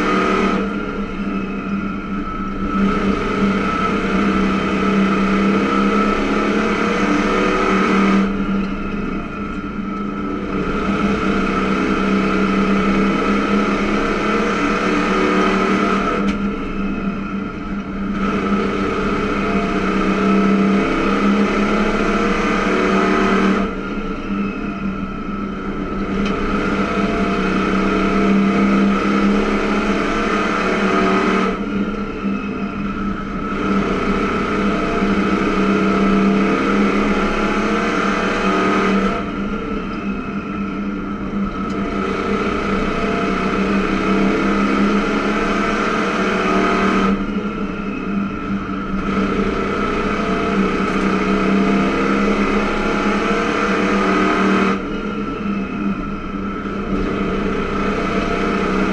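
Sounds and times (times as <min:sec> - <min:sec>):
race car engine from cockpit: 0:00.0 - 0:58.9.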